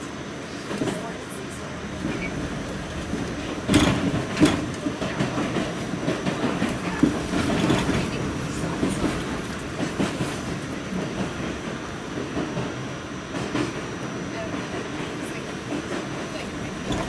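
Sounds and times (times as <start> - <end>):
subway train rumbling in tunnel: 0.0 - 17.0.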